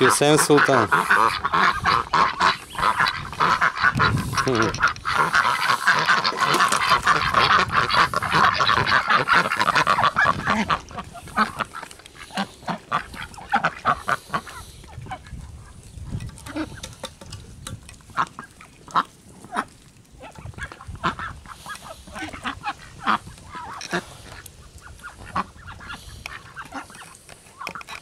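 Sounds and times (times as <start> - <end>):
ducks quacking: 0.0 - 17.2, 18.1 - 28.0.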